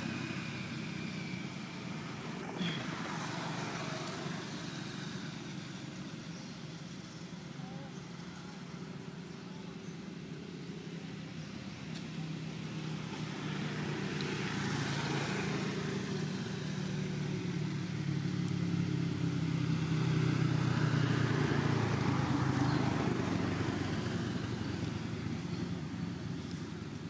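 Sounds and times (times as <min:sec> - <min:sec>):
vehicle engine passing by: 0:00.0 - 0:07.4, 0:11.0 - 0:27.0.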